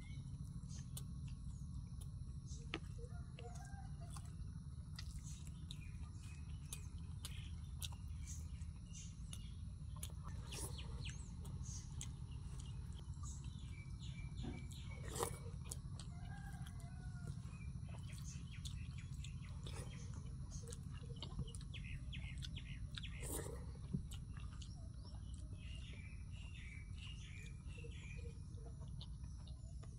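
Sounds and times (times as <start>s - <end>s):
low hum: 0.0s - 29.9s
small birds chirping: 0.0s - 29.9s.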